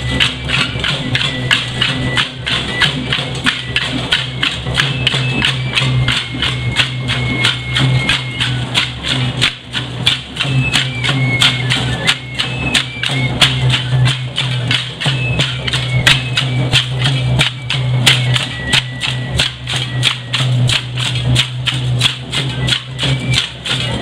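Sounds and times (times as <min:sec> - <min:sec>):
drum and rattling percussion: 0:00.0 - 0:24.0
high thin melody: 0:00.0 - 0:24.0.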